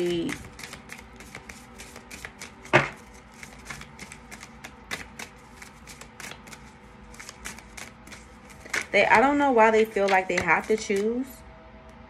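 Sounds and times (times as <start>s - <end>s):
cards being shuffled: 0.0s - 9.0s, 9.8s - 11.2s.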